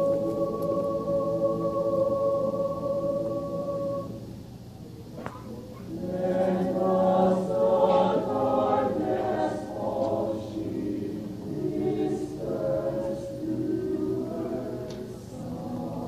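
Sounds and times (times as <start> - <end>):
mixed choir singing a cappella: 0.0 - 4.4, 5.4 - 16.0.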